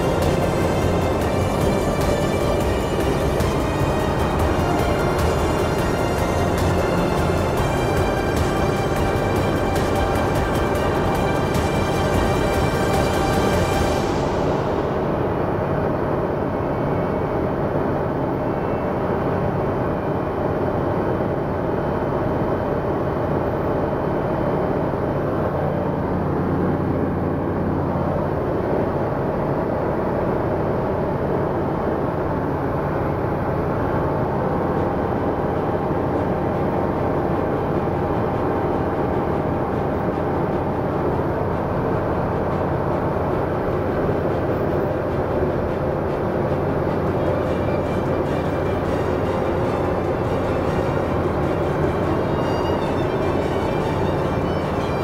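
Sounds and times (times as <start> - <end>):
propeller aircraft cabin drone: 0.0 - 55.0.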